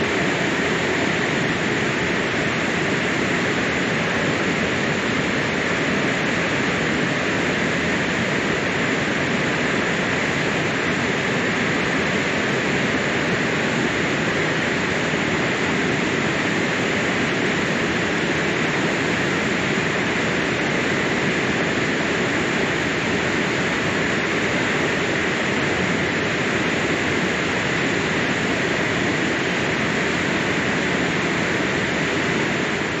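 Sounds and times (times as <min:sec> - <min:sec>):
water rushing over dam: 0:00.0 - 0:33.0.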